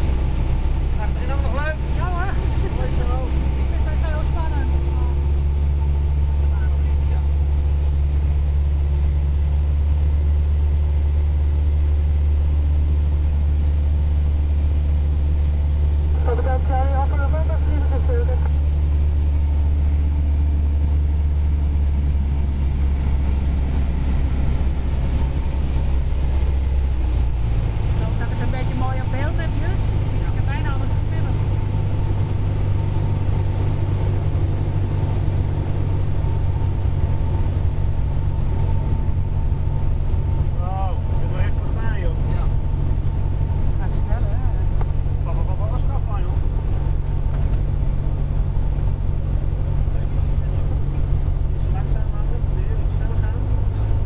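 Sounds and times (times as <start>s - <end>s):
aircraft engine drone in cabin: 0.0s - 54.0s
faint steady whine: 0.0s - 54.0s.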